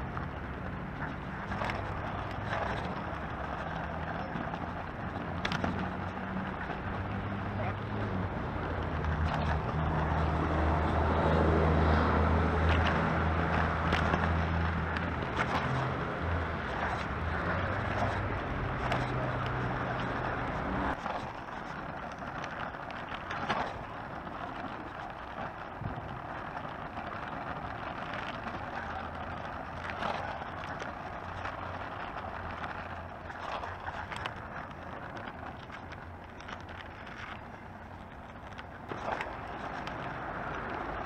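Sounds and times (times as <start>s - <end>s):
kick scooter rolling rumble: 0.0s - 41.0s.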